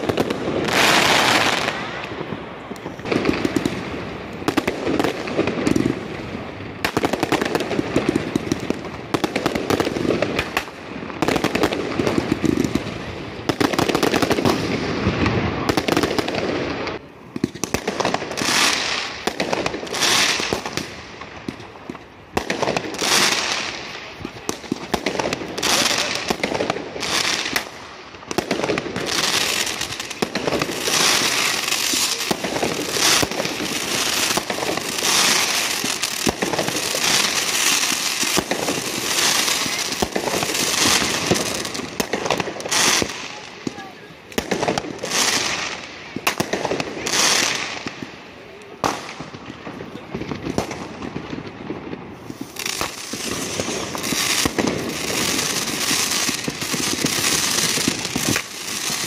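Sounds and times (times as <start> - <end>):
fireworks bangs and crackling: 0.0 - 59.0
hissing firework shots: 0.0 - 59.0.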